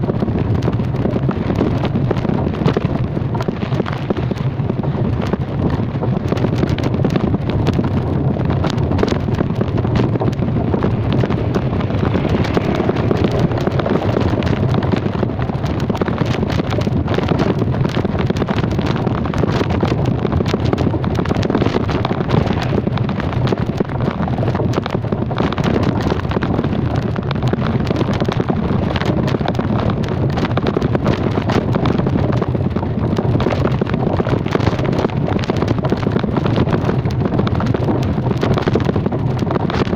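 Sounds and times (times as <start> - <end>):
low engine and road noise: 0.0 - 39.9
wind buffeting microphone: 0.0 - 39.9.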